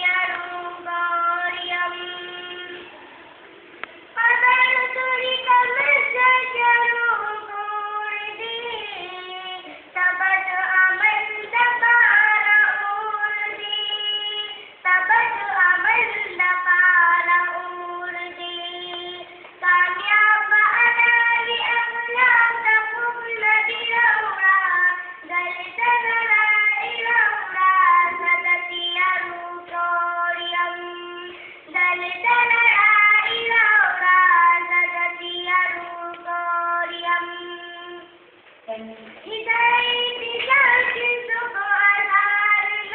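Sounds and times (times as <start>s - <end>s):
girl singing solo: 4.1s - 42.9s.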